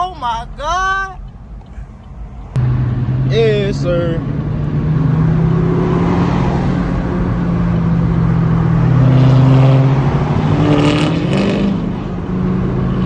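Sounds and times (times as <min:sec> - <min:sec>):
car engine revving: 0:02.4 - 0:13.0.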